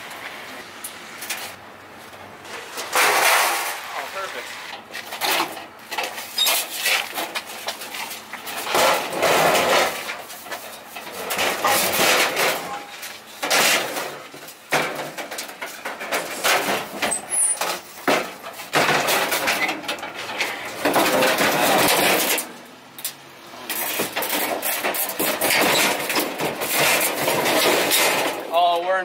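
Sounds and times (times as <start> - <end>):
gas grill scraping against truck bed: 2.4 - 22.6, 23.6 - 28.5.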